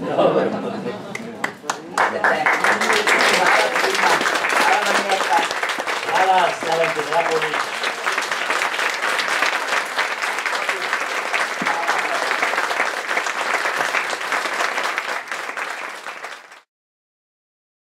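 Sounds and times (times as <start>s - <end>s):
audience applauding: 1.1s - 16.7s.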